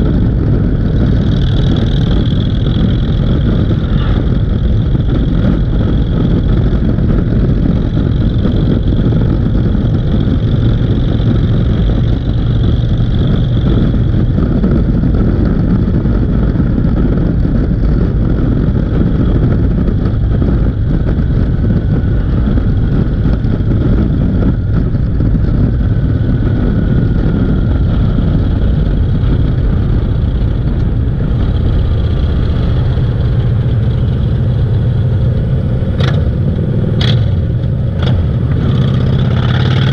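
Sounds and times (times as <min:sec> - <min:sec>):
vehicle engine with road noise: 0:00.0 - 0:39.9.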